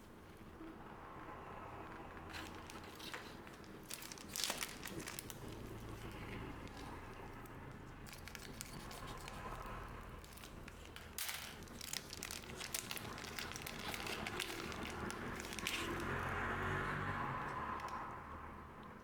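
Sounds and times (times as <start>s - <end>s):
wrappers crinkling: 2.1s - 18.1s
wrapper tearing: 2.3s - 18.0s.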